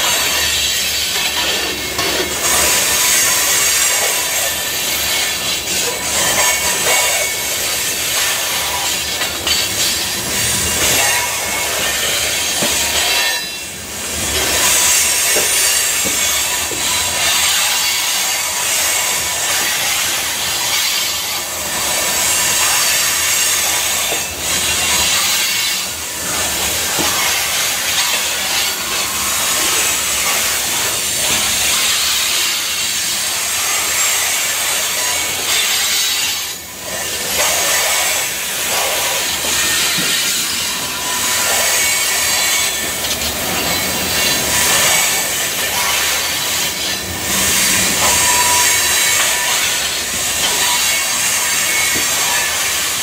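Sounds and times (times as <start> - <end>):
train wheels hissing on rails: 0.0 - 53.0.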